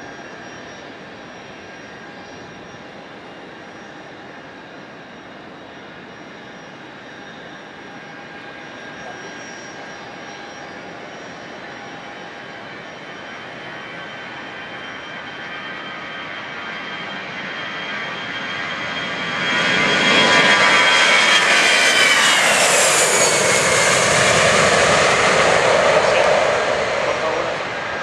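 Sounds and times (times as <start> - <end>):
jet engines at takeoff: 0.0 - 28.0.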